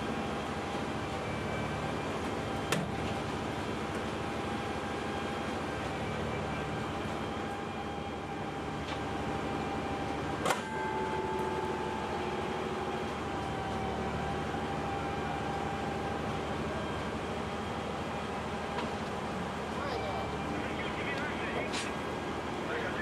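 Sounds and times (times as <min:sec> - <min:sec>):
crane whine: 0:00.0 - 0:23.0
machinery hum: 0:00.0 - 0:23.0.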